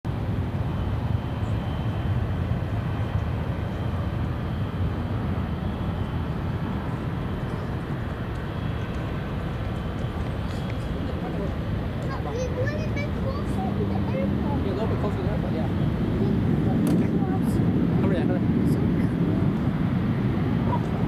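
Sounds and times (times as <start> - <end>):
jet engines rumbling: 0.1 - 21.0.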